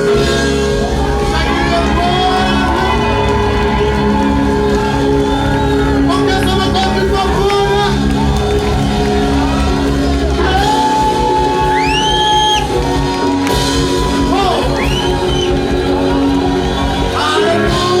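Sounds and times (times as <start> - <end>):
congregation singing: 0.0 - 18.0
keyboard and bass chords: 0.0 - 18.0
people shouting and whooping: 0.0 - 18.0.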